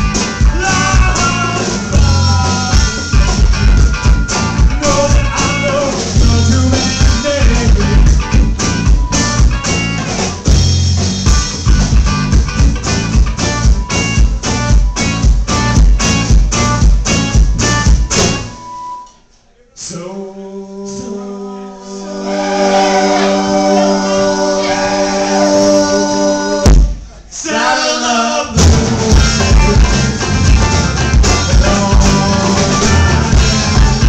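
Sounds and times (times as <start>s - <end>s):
live rock band playing: 0.0s - 19.0s, 22.2s - 26.9s, 28.6s - 34.0s.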